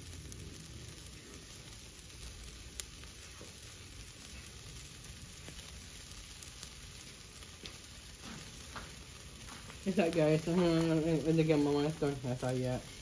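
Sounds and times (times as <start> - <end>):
crackling pops: 0.0 - 13.0
meat sizzling on grill: 0.0 - 13.0.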